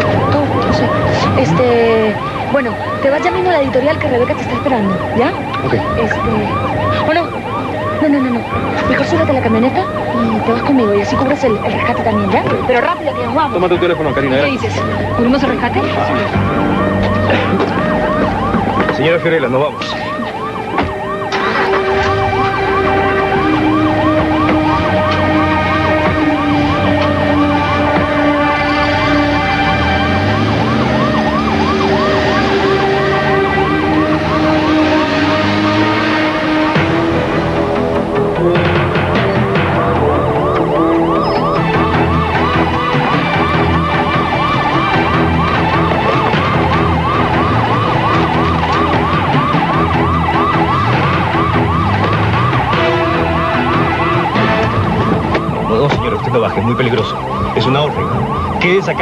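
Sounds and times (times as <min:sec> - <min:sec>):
low steady tones: 0:00.0 - 0:59.0
police siren yelping: 0:00.0 - 0:59.0.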